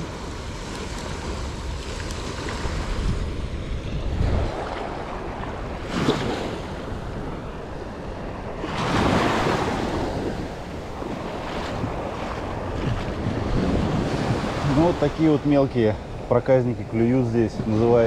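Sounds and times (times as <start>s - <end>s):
small waves washing on shore: 0.0s - 18.0s
wind buffeting microphone: 0.0s - 18.0s.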